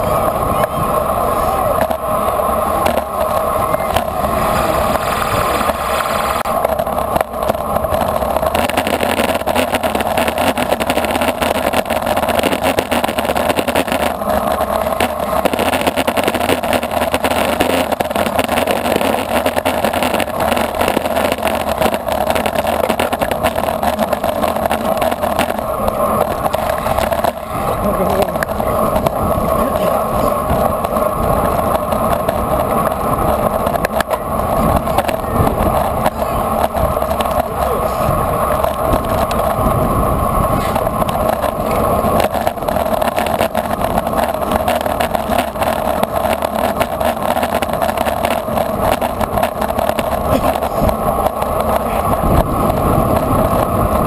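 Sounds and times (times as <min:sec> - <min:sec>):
tyre and road noise: 0:00.0 - 0:54.0
wind on microphone: 0:00.0 - 0:54.0.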